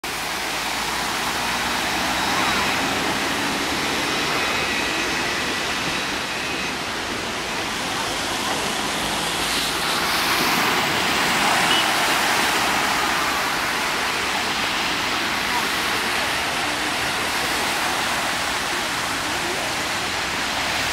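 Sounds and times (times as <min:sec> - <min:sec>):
floodwater rushing and splashing: 0:00.0 - 0:20.9.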